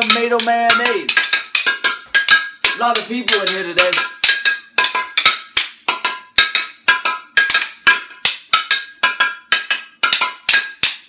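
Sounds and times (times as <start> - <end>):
glass bottle struck in a beat: 0.0 - 11.0.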